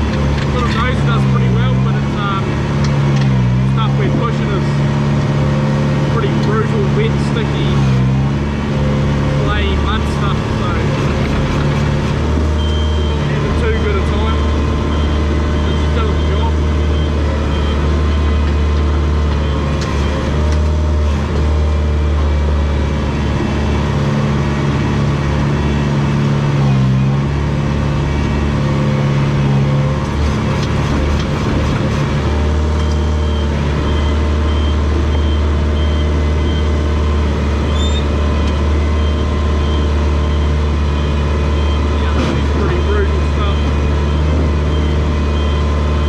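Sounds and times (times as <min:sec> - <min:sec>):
bulldozer diesel engine: 0:00.0 - 0:46.0.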